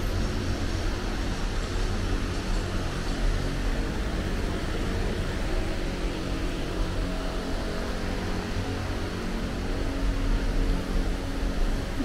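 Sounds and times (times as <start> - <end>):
subway platform rumble and hiss: 0.0 - 12.0.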